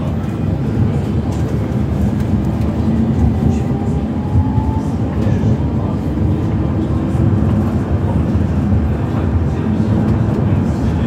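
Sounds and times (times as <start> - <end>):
tram wheels rumbling on rail: 0.0 - 11.0.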